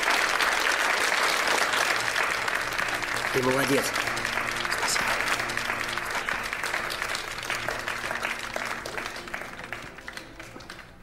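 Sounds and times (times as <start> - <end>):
people applauding: 0.0 - 11.0
soft background music: 1.2 - 11.0.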